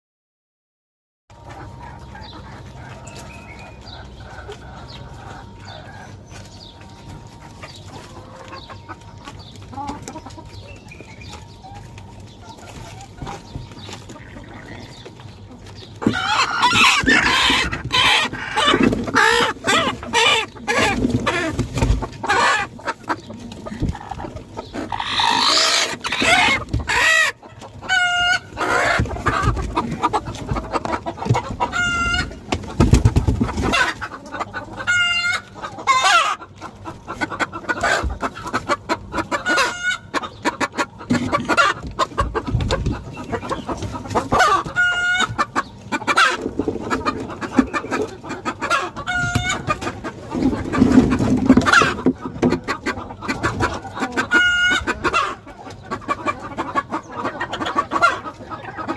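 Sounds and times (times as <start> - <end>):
chickens clucking: 1.3 - 58.9.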